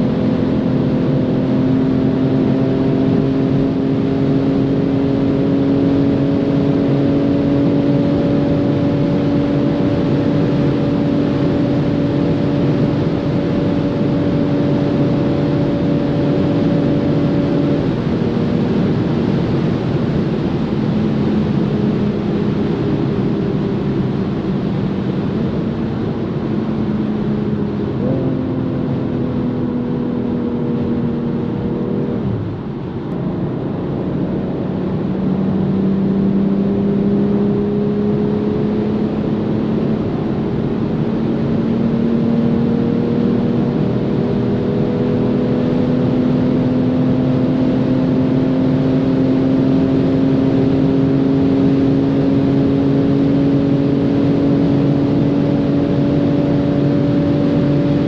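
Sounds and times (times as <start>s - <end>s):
car engine pulling at speed: 0.0s - 58.0s
wind and road noise: 0.0s - 58.0s.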